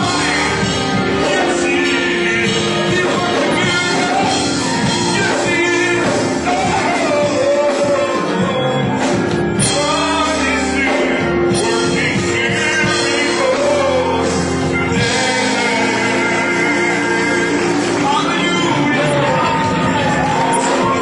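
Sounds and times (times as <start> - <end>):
band playing upbeat worship song: 0.0 - 21.0
person singing: 0.0 - 21.0.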